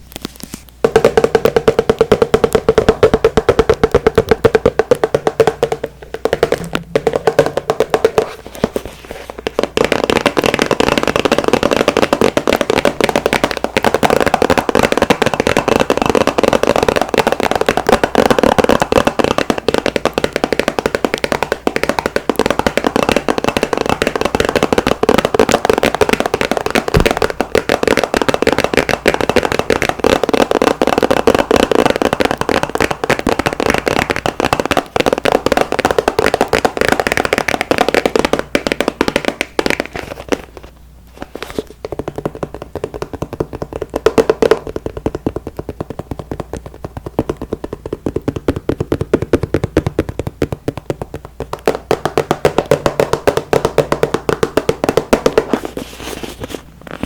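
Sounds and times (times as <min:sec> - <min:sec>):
tapping and scratching: 0:00.0 - 0:57.0.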